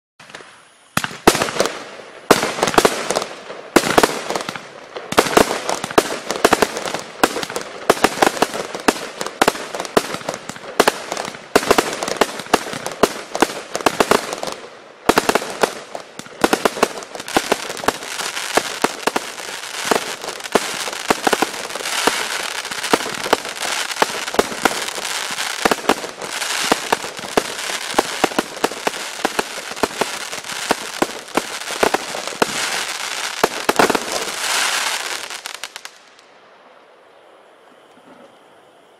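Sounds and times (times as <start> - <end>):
firework barrage bangs and crackle: 0.2 - 36.2.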